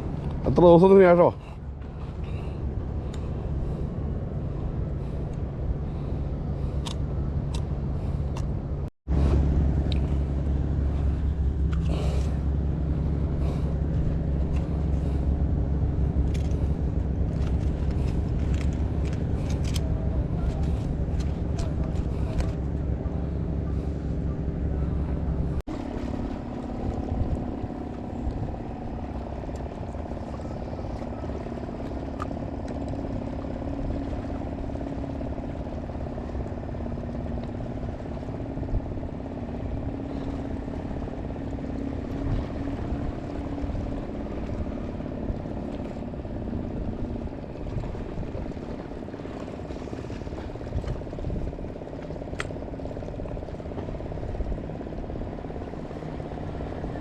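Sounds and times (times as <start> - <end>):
low rumbling noise: 0.0 - 57.0.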